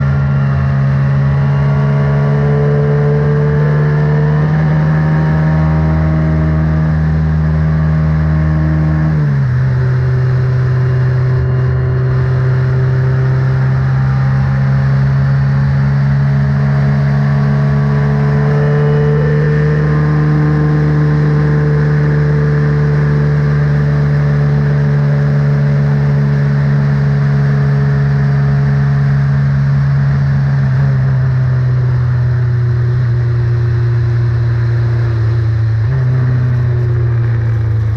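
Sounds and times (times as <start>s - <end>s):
race car engine running: 0.0s - 37.9s.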